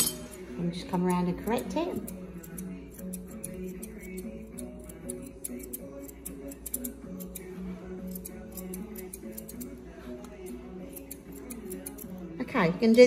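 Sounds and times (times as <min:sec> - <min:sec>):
scissors snipping hair: 0:01.4 - 0:13.0.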